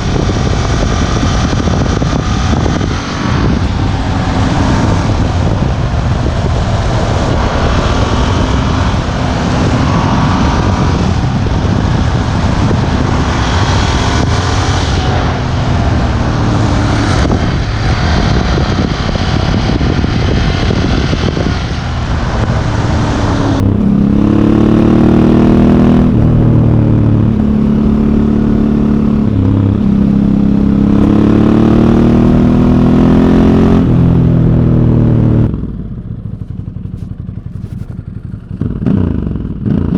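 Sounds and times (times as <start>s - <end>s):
motorcycle engine: 0.0s - 39.9s
road noise: 0.0s - 39.9s
wind noise: 0.0s - 39.9s.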